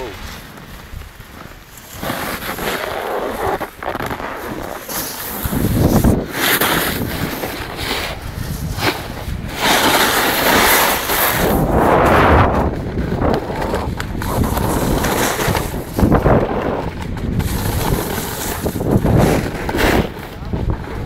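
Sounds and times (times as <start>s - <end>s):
skis sliding over snow: 0.0s - 21.0s
wind rushing over microphone: 0.0s - 21.0s.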